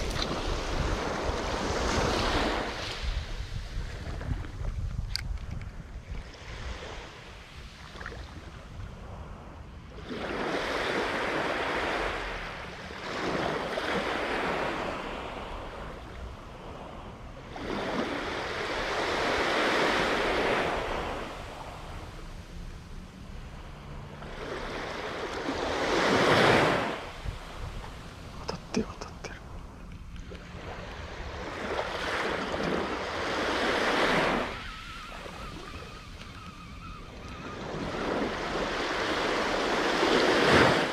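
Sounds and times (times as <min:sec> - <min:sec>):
small waves washing on sand: 0:00.0 - 0:04.9, 0:06.2 - 0:40.9
wind rumble on microphone: 0:00.0 - 0:40.9.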